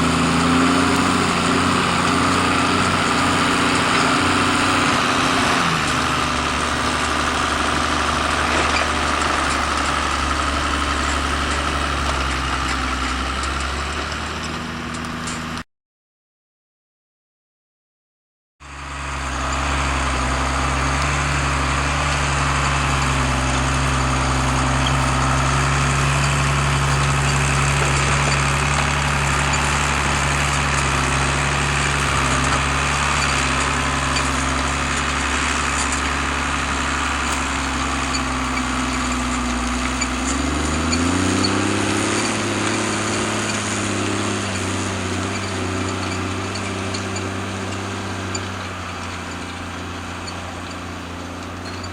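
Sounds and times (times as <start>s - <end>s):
tractor diesel engine running: 0.0s - 15.6s, 18.6s - 51.9s.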